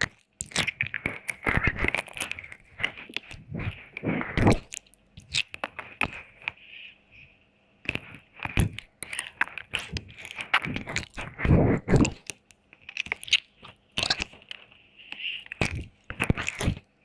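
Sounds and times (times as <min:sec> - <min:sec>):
wet mouth smacks and licking: 0:00.0 - 0:06.2, 0:07.9 - 0:14.6, 0:15.4 - 0:16.8.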